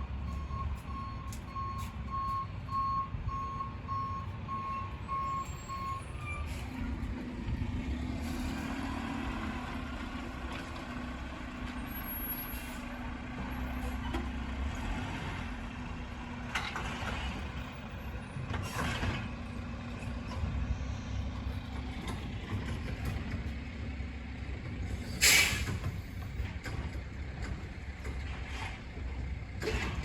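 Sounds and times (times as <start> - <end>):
garbage truck engine rumble: 0.0 - 30.0.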